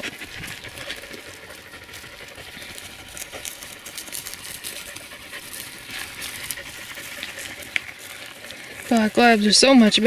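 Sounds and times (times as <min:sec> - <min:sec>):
footsteps crunching through dry grass: 0:00.0 - 0:10.0.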